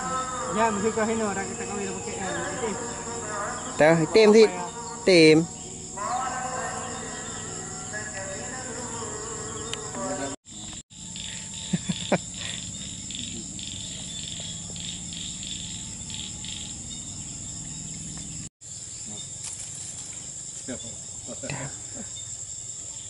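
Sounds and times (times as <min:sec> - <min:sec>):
crickets trilling: 0:00.0 - 0:23.0
pulsing insect chirp: 0:00.0 - 0:23.0.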